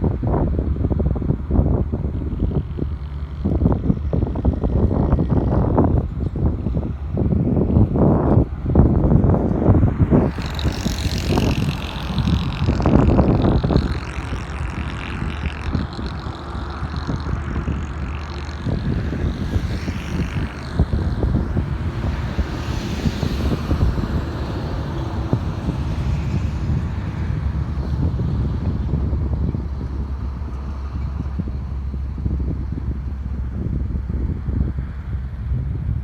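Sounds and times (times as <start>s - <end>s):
highway traffic passing: 0.0s - 36.0s
wind rumbling on microphone: 0.0s - 36.0s.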